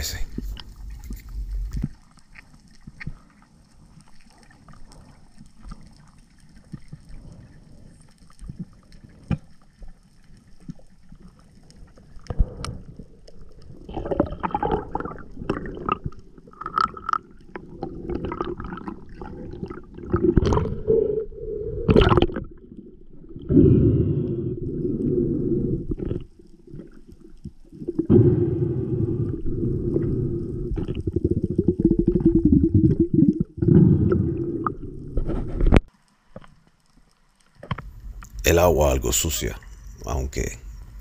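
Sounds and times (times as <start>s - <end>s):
underwater rushing and gurgling: 0.0s - 38.6s.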